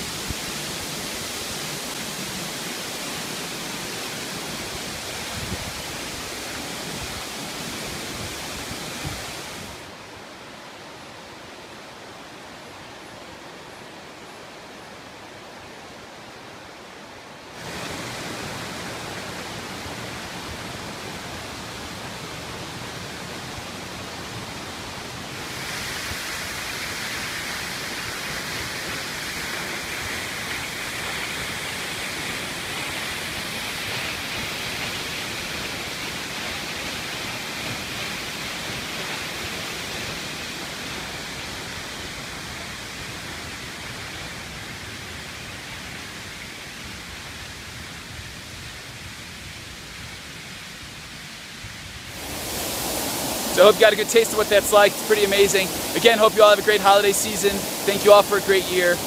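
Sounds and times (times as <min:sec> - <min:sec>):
waterfall rushing: 0:00.0 - 0:11.2, 0:16.0 - 0:50.8, 0:51.9 - 0:59.0.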